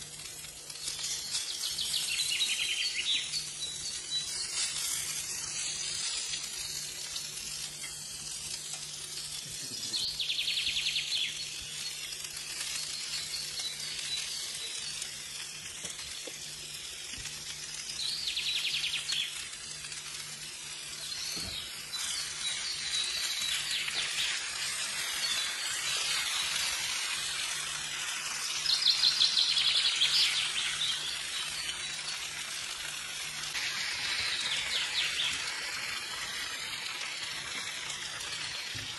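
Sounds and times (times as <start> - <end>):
food sizzling in oil: 0.0 - 38.9
oil crackling: 0.0 - 38.9.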